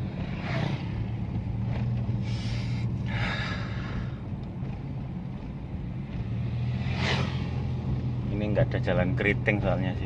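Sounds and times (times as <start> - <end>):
car engine hum inside cabin: 0.0 - 10.0.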